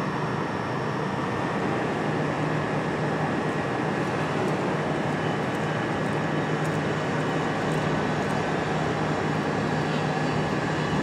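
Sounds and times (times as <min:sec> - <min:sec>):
constant high whine: 0:00.0 - 0:11.0
electric train hum and rumble: 0:00.0 - 0:11.0.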